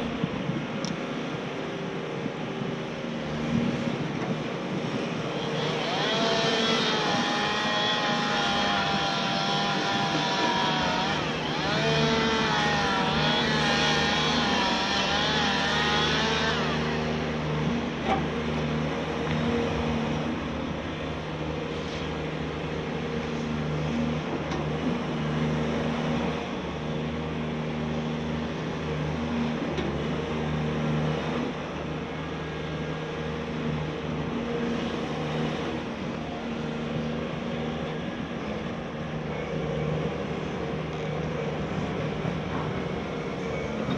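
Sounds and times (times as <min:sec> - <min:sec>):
excavator engine droning: 0:00.0 - 0:43.9.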